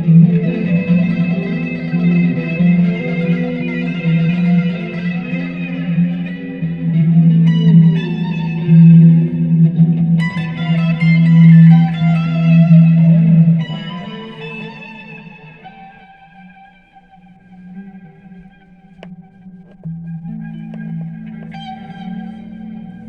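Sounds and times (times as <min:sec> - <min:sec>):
electric guitar melodic lead: 0:00.0 - 0:23.0
low sustained guitar note: 0:00.0 - 0:23.0.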